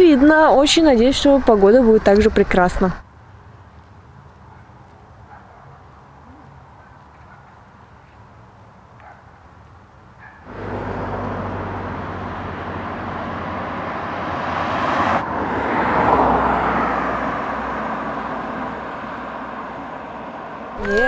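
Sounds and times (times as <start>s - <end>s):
cars passing on a road: 0.0s - 21.0s.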